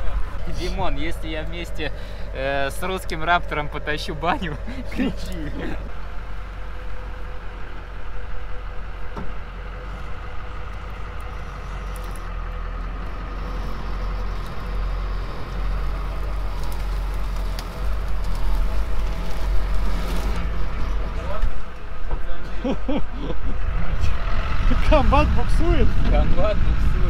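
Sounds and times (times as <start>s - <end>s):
truck engine straining: 0.0s - 27.0s.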